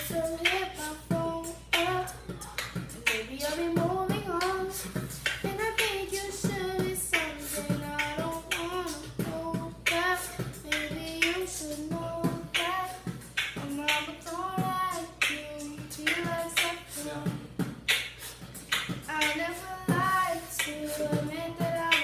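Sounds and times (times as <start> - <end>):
beatboxed beat: 0.0 - 22.0
boy singing pop melody: 0.0 - 22.0.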